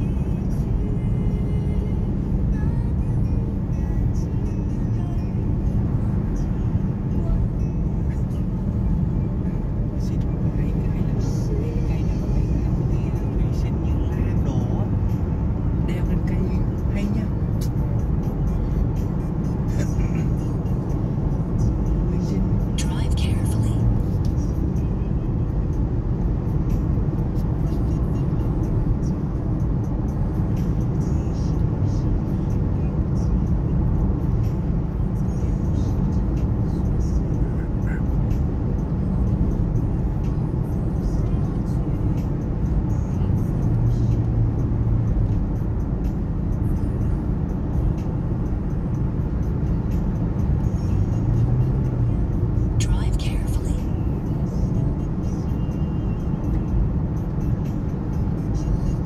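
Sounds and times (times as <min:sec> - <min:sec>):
vehicle driving rumble: 0:00.0 - 0:59.0.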